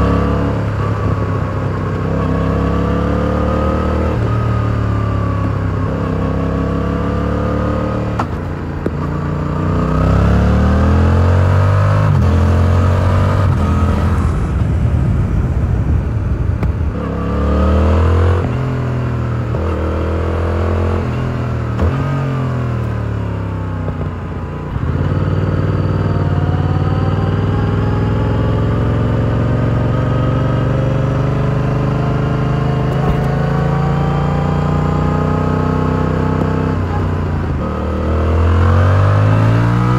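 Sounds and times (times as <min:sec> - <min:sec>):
motorcycle engine revving through gears: 0:00.0 - 0:15.1, 0:16.5 - 0:39.9.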